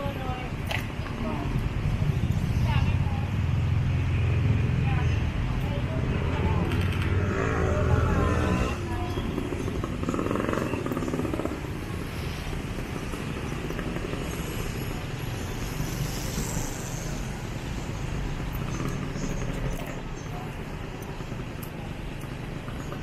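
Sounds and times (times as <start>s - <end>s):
cars and motorbikes passing: 0.0s - 23.0s.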